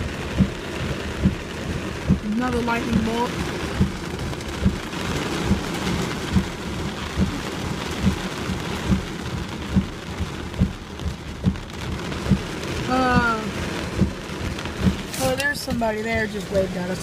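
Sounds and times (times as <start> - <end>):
regular low thump: 0.0 - 15.9
heavy rain on a car: 0.0 - 17.0.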